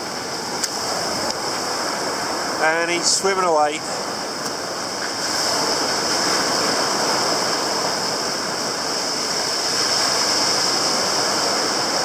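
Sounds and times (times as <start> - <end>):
surf washing over sand: 0.0 - 12.0.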